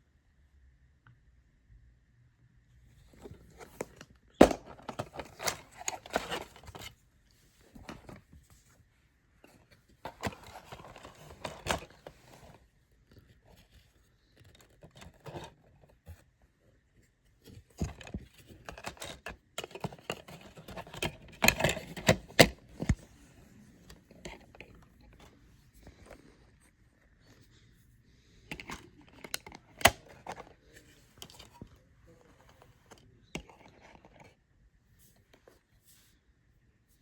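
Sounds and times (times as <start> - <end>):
plastic cases scraping and rustling: 3.0 - 8.8, 9.4 - 16.4, 17.4 - 34.4.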